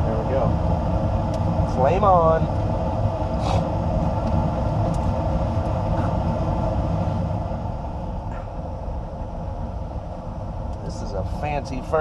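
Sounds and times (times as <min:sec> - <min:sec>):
gas furnace running: 0:00.0 - 0:12.0.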